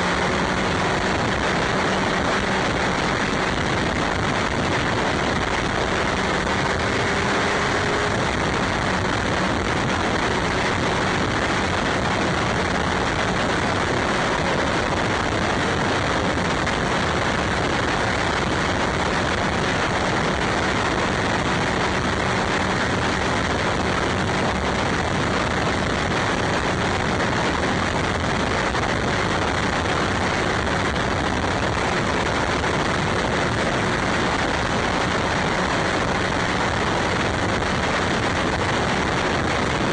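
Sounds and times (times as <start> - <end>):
faint engine hum: 0.0 - 33.6
road noise: 0.0 - 39.9
wind rush: 0.0 - 39.9.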